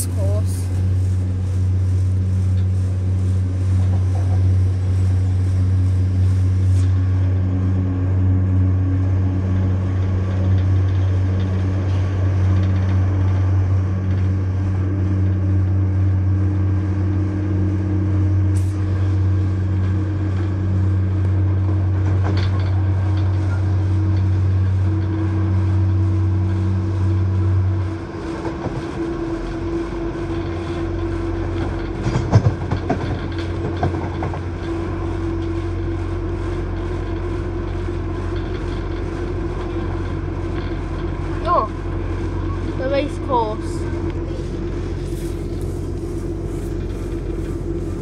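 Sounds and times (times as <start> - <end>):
train engine drone: 0.0 - 48.0
train wheels rumbling on track: 0.0 - 48.0.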